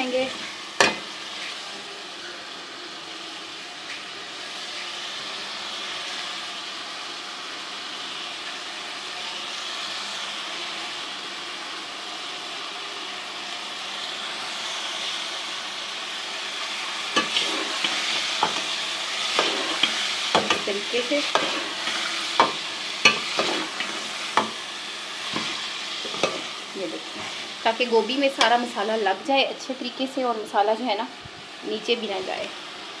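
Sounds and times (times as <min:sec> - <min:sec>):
cauliflower sizzling in a pot: 0:00.0 - 0:33.0.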